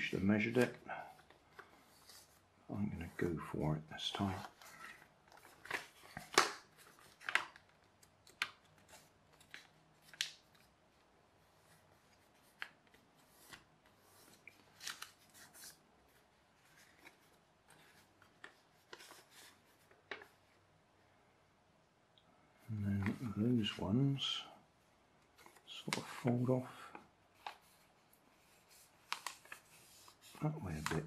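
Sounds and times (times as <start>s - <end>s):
paper being folded and creased: 0.0s - 20.6s, 23.0s - 23.8s, 25.3s - 31.0s.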